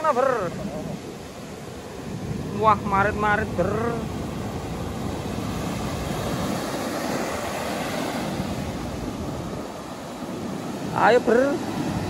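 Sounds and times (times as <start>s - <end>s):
surf breaking on a beach: 0.0s - 12.0s
wind buffeting the microphone: 0.0s - 12.0s.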